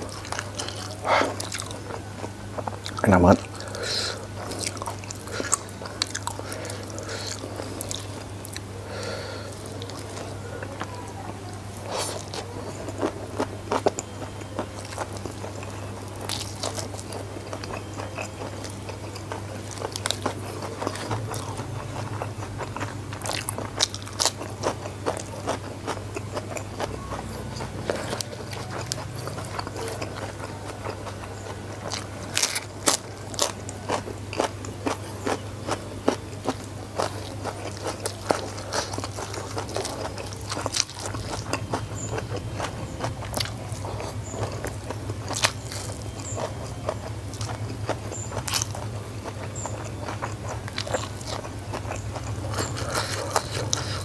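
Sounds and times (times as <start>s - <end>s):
steady low hum: 0.0s - 54.0s
wet chewing: 0.0s - 54.0s
crunchy bites into vegetables: 9.5s - 54.0s.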